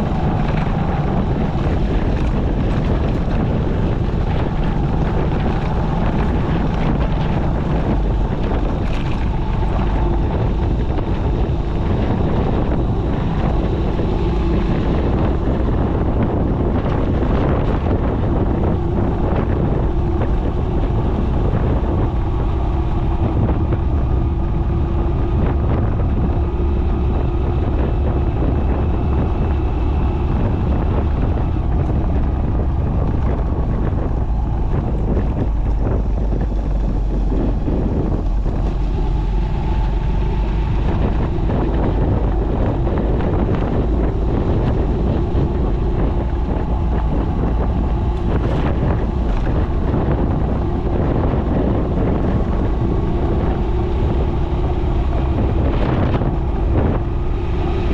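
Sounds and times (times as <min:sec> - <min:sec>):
motorcycle engine running: 0:00.0 - 0:57.9
wind rushing on microphone: 0:00.0 - 0:57.9.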